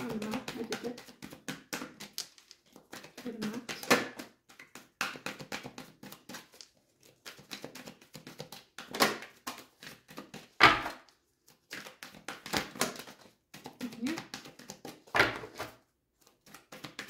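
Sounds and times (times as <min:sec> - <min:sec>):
cards shuffling: 0:00.0 - 0:17.0.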